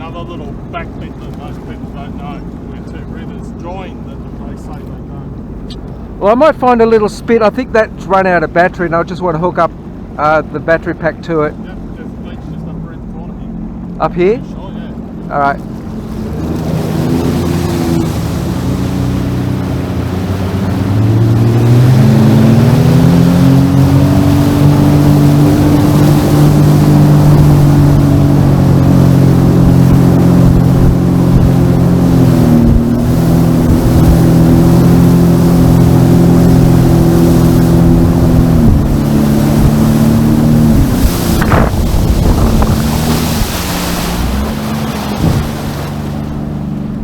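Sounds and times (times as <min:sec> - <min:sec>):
jet ski engine running: 0:00.0 - 0:47.0.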